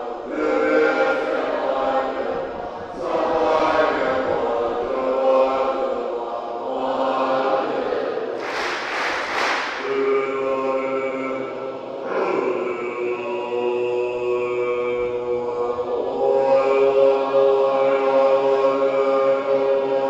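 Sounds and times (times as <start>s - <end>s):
voices chanting in held tones: 0.0s - 20.0s.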